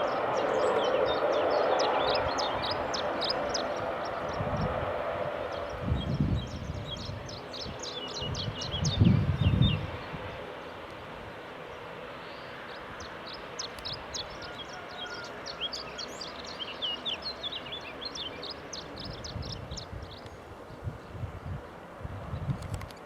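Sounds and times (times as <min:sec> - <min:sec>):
small birds chirping: 0:00.0 - 0:04.8, 0:05.5 - 0:21.2.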